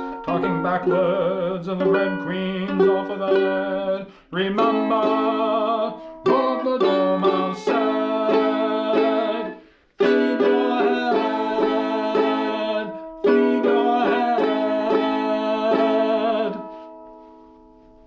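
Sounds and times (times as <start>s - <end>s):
ukulele strumming chords: 0.0s - 18.0s.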